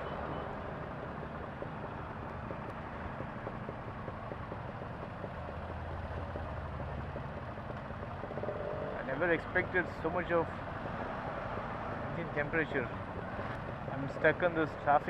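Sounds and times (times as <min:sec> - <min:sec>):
motorcycle engine idling: 0:00.4 - 0:15.0.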